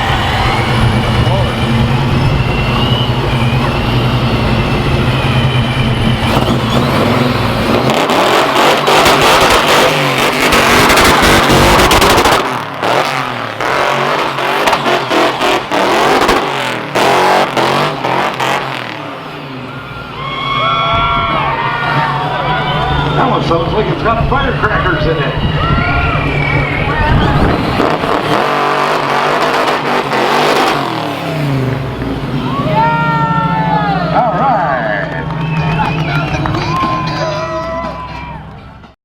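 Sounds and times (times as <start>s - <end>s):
car engine revving: 0.0s - 38.6s.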